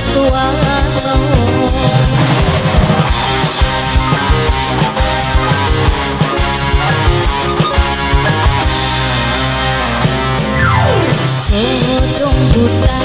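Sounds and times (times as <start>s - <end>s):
live band music: 0.0s - 13.0s
steady drum beat: 0.0s - 13.0s.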